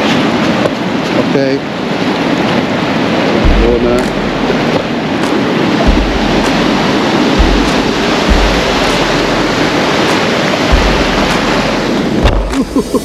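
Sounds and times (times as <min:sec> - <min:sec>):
shore surf: 0:00.0 - 0:13.0
wind: 0:00.0 - 0:13.0
wind buffeting microphone: 0:00.0 - 0:13.0.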